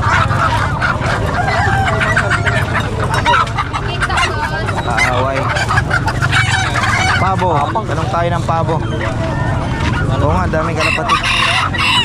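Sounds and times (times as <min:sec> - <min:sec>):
poultry calling: 0:00.0 - 0:12.0.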